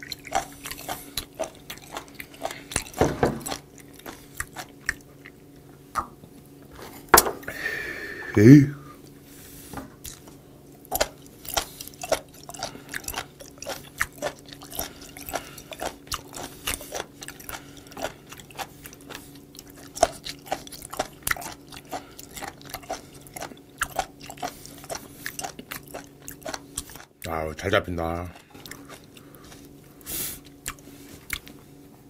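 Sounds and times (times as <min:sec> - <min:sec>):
chewing crunchy seafood: 0:00.0 - 0:06.7, 0:10.0 - 0:31.9.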